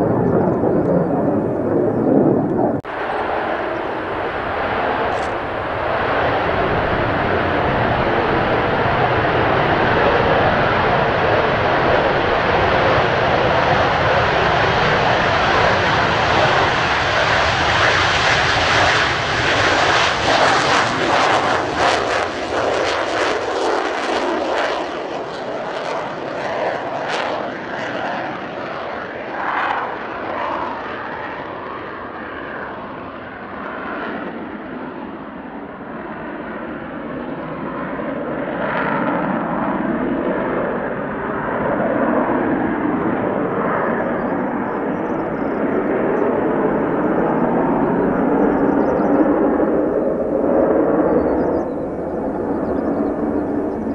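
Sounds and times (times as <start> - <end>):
jet roar with crackling: 0.0 - 53.9.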